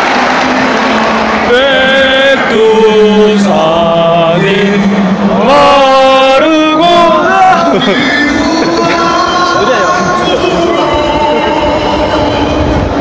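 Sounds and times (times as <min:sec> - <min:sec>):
anthem over sound system: 0:00.0 - 0:13.0
stadium crowd din: 0:00.0 - 0:13.0.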